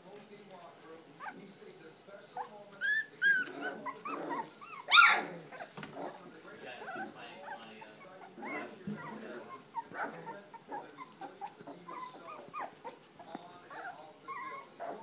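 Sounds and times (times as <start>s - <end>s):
puppies whimpering and squeaking: 1.1s - 1.6s, 2.3s - 15.0s.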